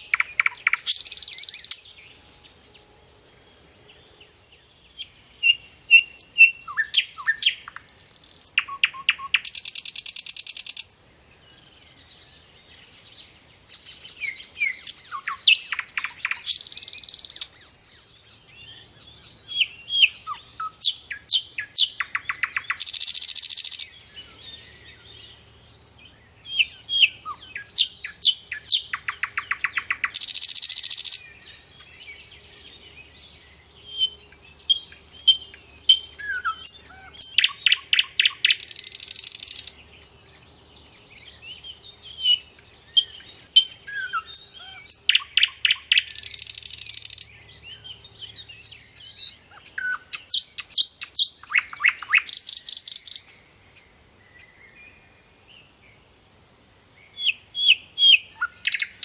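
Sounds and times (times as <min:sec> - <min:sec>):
nightingale singing: 0:00.0 - 0:56.1, 0:56.9 - 0:59.0.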